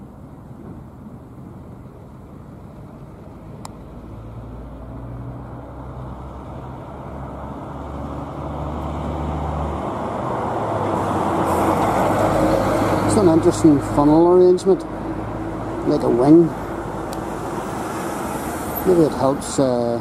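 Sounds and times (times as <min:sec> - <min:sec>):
road traffic noise: 0:00.0 - 0:20.0
vehicle engine hum: 0:00.0 - 0:20.0.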